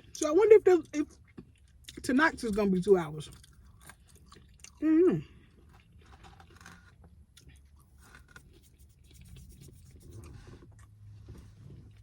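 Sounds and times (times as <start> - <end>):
faint chewing: 0.8 - 12.0.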